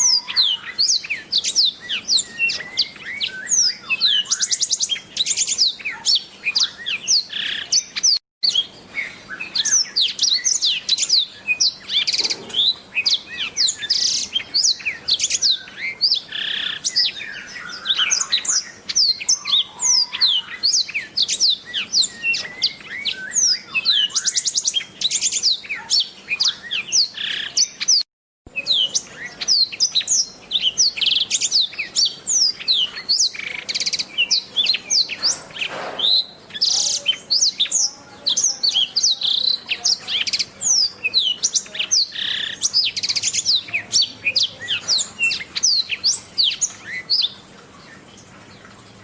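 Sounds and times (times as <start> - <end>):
canary singing: 0.0 - 48.1.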